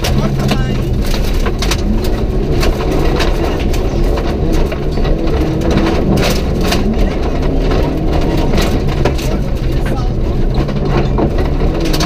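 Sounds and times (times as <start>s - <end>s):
car engine running hard: 0.0s - 12.0s
gravel clicks and knocks: 0.0s - 12.0s.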